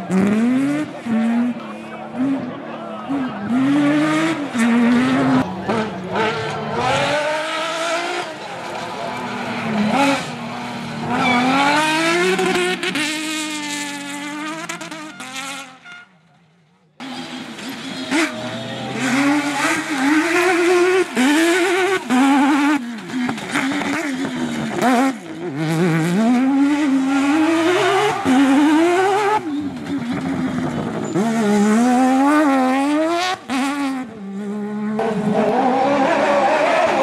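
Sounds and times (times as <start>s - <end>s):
rally car engines revving: 0.0s - 37.0s.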